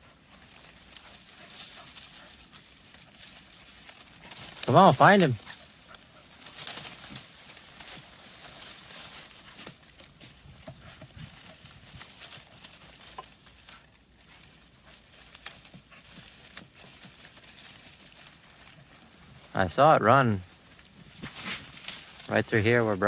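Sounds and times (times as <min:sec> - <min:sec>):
crunching and rustling in snow and leaves: 0:00.0 - 0:23.0.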